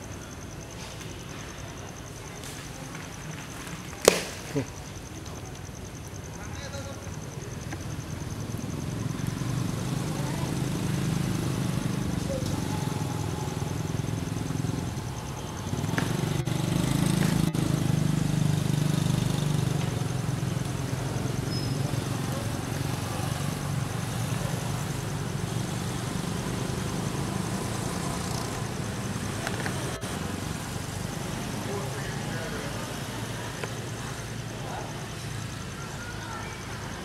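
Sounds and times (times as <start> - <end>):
vehicle engine humming: 4.8 - 37.0.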